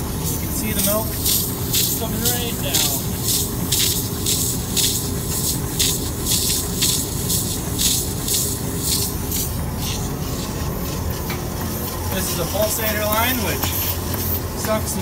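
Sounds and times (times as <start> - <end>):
milking pulsators hissing: 0.0 - 15.0
vacuum system low hum: 0.0 - 15.0.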